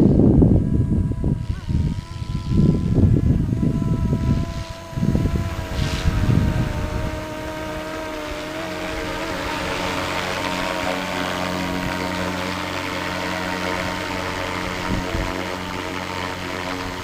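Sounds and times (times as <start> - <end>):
helicopter motor and rotor whine: 0.0 - 17.0
rotor hiss: 0.0 - 17.0
wind buffeting microphone: 0.0 - 17.0.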